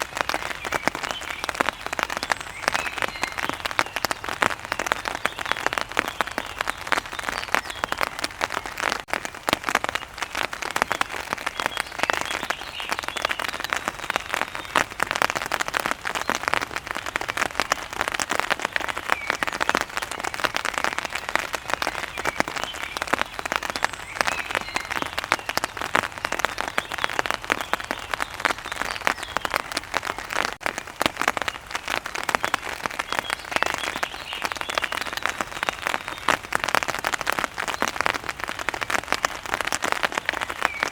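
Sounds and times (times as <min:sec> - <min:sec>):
rain pattering on an umbrella: 0:00.0 - 0:40.9.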